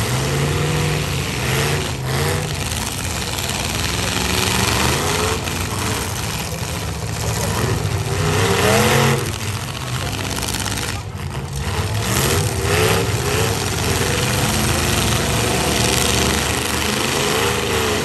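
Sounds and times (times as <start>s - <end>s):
truck engines revving: 0.0s - 18.0s.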